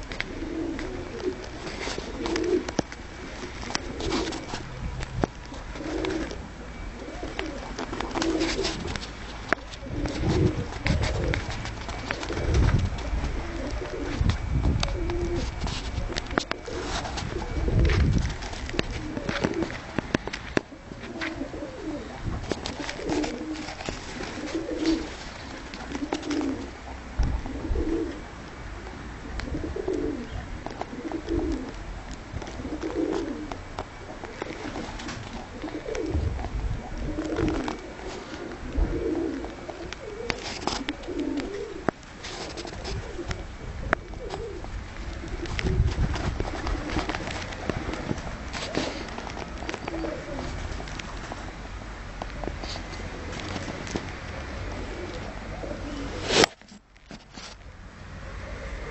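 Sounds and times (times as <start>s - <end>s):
pigeons cooing: 0.0s - 51.6s, 52.3s - 56.6s, 58.1s - 58.9s.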